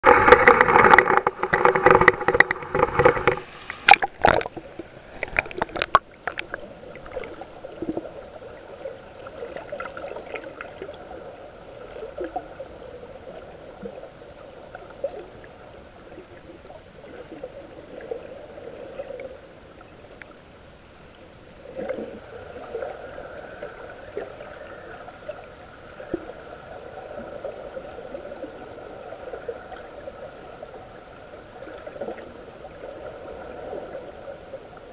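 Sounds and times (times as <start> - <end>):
sea water splashing: 0.0 - 20.3, 21.5 - 34.9
muffled underwater water noise: 0.0 - 34.9.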